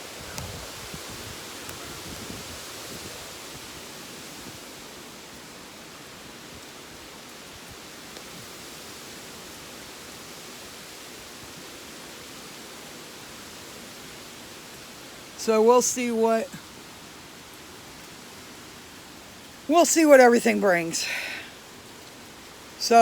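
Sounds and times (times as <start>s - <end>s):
wind rushing through trees: 0.0s - 23.0s.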